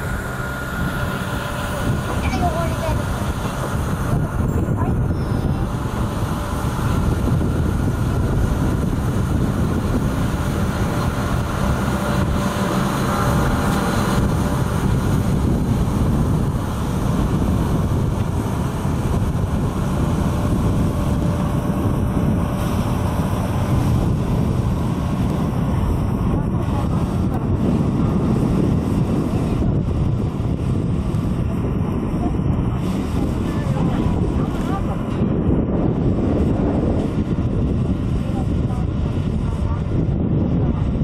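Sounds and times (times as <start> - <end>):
steam train rumbling: 0.0 - 41.0
wind buffeting microphone: 0.0 - 41.0.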